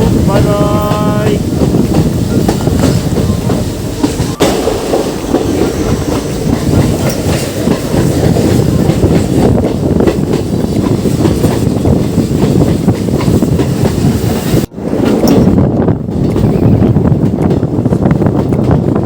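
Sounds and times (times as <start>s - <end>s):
train rumble: 0.0s - 19.0s
wheels clattering over rail joints: 1.6s - 14.1s, 14.8s - 19.0s.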